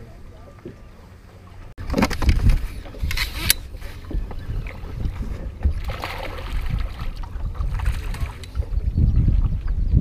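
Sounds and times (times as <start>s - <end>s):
water splashing: 0.0s - 9.6s
wind rumbling on microphone: 1.8s - 10.0s.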